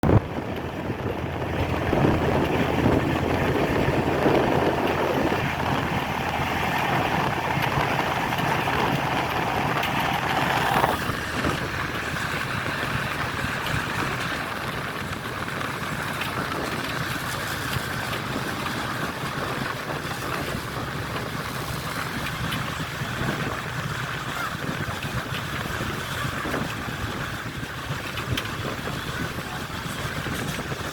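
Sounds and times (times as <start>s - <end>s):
passenger train rumbling: 0.0s - 30.9s.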